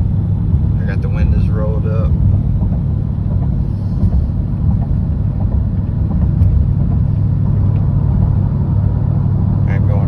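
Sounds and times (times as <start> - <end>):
car exhaust droning: 0.0 - 10.0.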